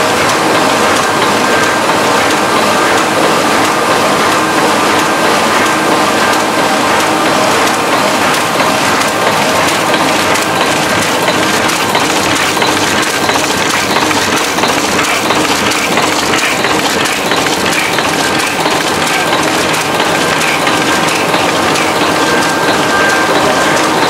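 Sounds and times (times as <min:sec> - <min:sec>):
printing press clatter: 0:00.0 - 0:24.0.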